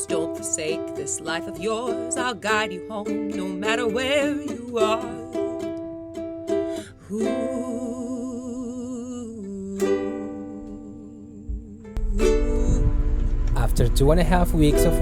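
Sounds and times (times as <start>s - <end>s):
person singing with vibrato: 0.0s - 5.6s, 6.6s - 15.0s
ukulele chords: 0.0s - 15.0s.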